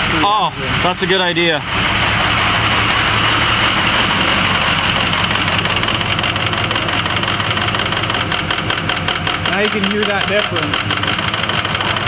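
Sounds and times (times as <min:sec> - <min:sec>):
diesel engine idling roughly: 0:00.0 - 0:12.0.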